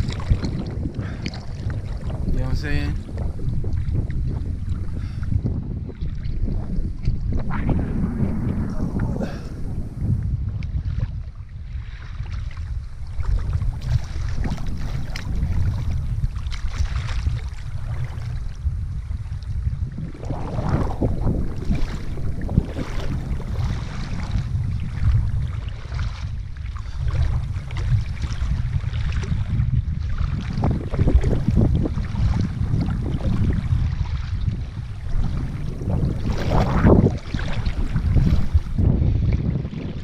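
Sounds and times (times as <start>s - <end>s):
sea water sloshing: 0.0s - 40.0s
wind rumbling on microphone: 0.0s - 40.0s.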